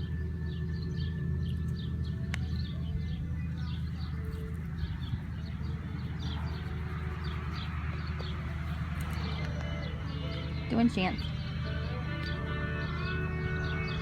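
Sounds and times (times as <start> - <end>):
small bird chirping: 0.0 - 14.0
steady low hum: 0.0 - 14.0.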